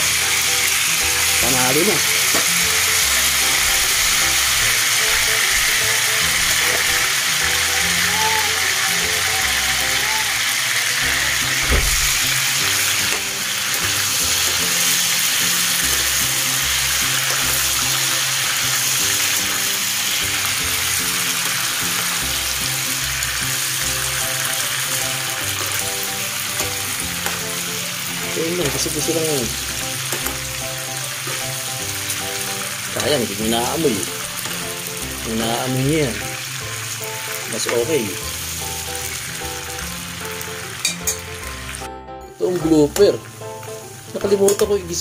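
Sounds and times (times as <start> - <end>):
chicken frying in bubbling oil: 0.0 - 41.8
background music: 0.0 - 45.0.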